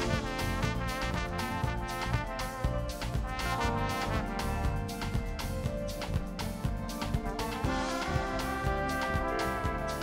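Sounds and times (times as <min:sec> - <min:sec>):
trombone holding notes: 0:00.0 - 0:06.0, 0:06.9 - 0:10.0
cymbals: 0:00.0 - 0:10.0
drum kit played with sticks: 0:00.0 - 0:10.0.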